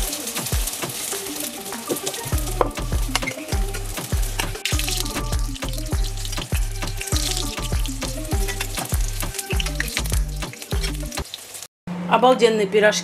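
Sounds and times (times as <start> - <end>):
background music with bass beat: 0.0 - 11.2
oil sizzling in a pan: 0.0 - 11.7.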